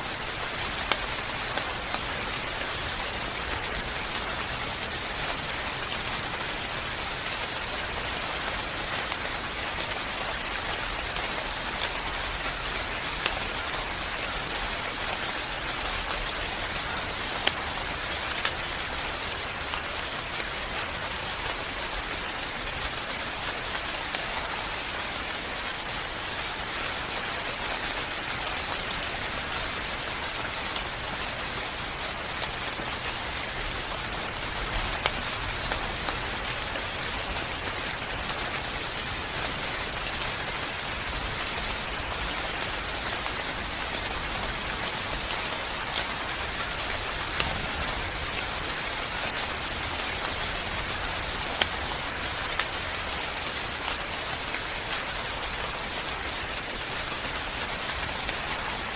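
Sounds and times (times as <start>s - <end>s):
rain pattering on a surface: 0.0s - 58.9s.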